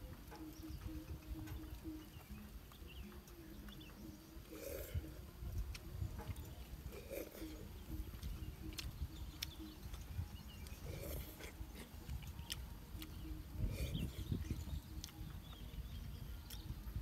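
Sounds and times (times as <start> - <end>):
steady low rumble: 0.0 - 17.0
chewing and slurping: 0.3 - 17.0.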